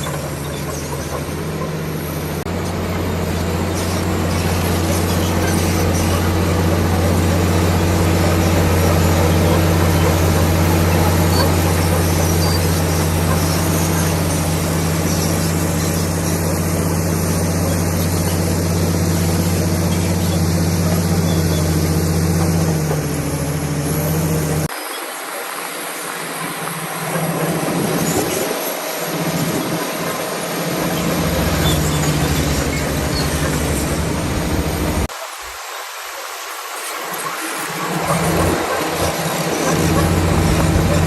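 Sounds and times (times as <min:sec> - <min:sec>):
bulldozer diesel engine running: 0:00.0 - 0:24.7, 0:27.0 - 0:35.1, 0:37.7 - 0:41.0.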